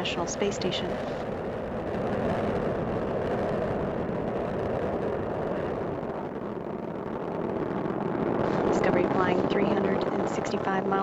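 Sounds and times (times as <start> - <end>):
rocket engines rumbling: 0.0 - 11.0.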